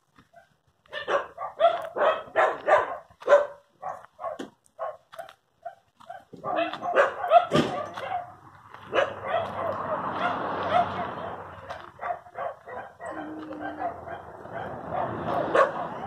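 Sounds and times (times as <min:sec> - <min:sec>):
dogs barking: 0:00.2 - 0:16.0.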